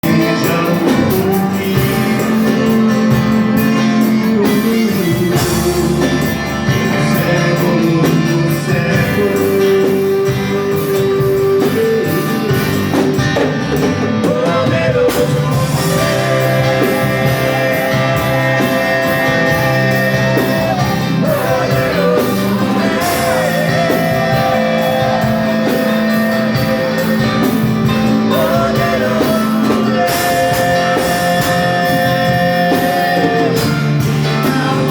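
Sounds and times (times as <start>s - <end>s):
guitar: 0.0s - 34.9s
person singing: 0.0s - 34.9s.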